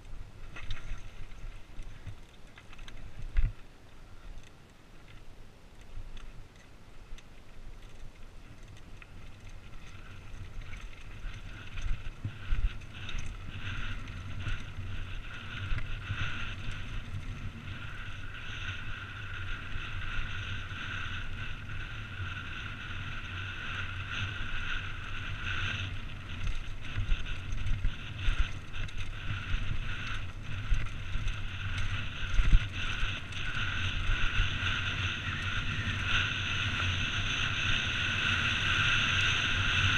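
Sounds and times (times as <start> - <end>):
bike rattling over bumps: 0.0 - 39.9
bike tyres crunching on gravel: 0.0 - 39.9
wind noise on microphone: 5.9 - 39.9.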